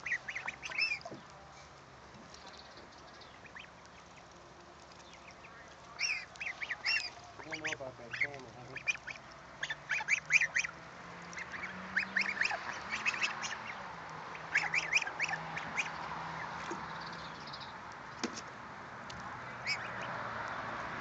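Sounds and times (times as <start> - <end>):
goslings peeping: 0.0 - 1.3, 2.2 - 17.9, 19.1 - 20.6.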